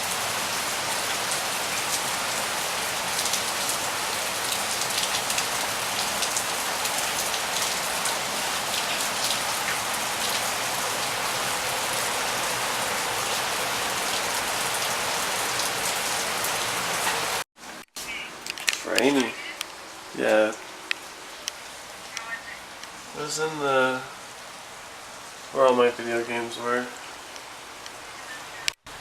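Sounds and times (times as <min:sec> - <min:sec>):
rain pattering on hard surfaces: 0:00.0 - 0:17.4, 0:18.0 - 0:29.0.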